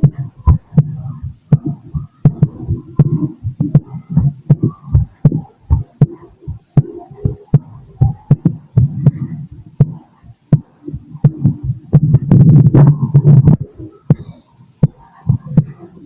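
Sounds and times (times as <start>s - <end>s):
heartbeat through stethoscope: 0.0s - 16.0s.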